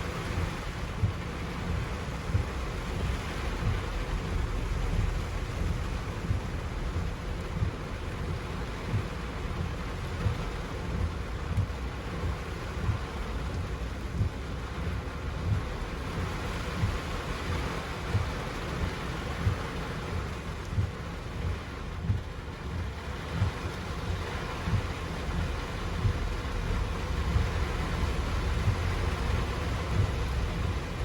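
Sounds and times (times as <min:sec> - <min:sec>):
heavy rain pouring: 0:00.0 - 0:31.0
low thumps and rumbles: 0:00.0 - 0:31.0.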